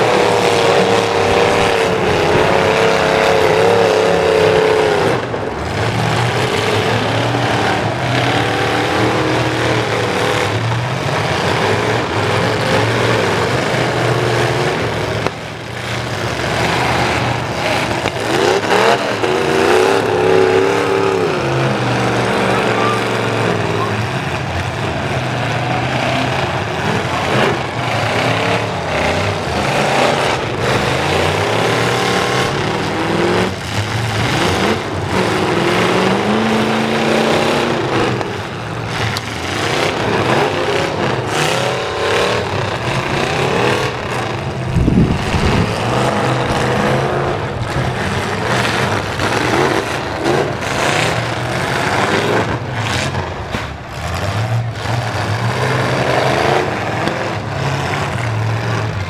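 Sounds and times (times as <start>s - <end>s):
truck engines revving: 0.0s - 59.0s
trucks colliding: 0.0s - 59.0s.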